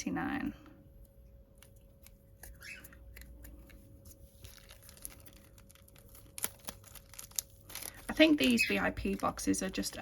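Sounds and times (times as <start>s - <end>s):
containers and packaging handled: 1.5s - 10.0s.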